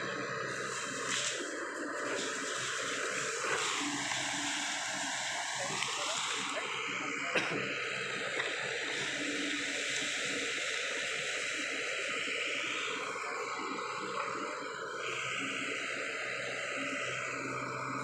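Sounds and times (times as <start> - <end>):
mini excavator running: 0.0 - 18.0.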